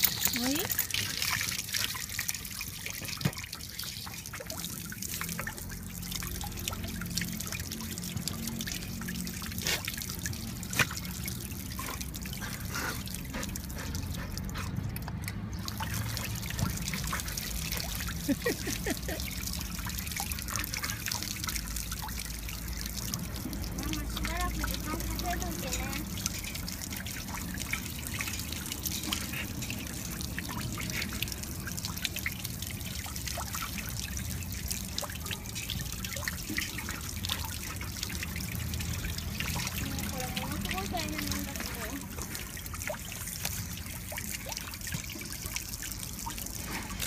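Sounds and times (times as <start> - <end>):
water spraying on wet pavement: 0.0 - 14.7, 15.4 - 47.0.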